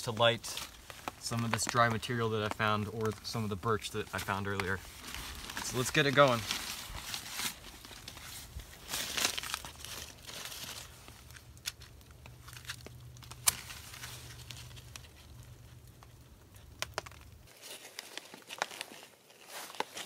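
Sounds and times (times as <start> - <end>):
paper crumpled and torn: 0.2 - 20.0.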